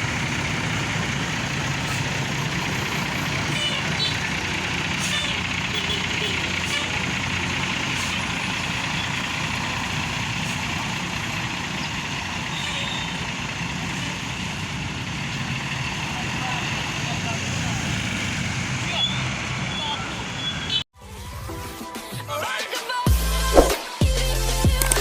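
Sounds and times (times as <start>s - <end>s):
bus engine humming: 0.0s - 20.9s.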